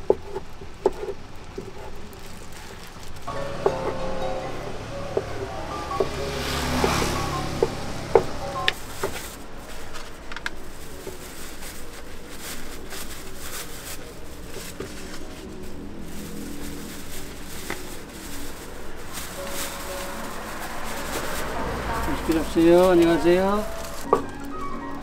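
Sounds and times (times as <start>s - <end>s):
plastic bag rustling: 0.0s - 25.0s
street traffic hum: 0.0s - 25.0s.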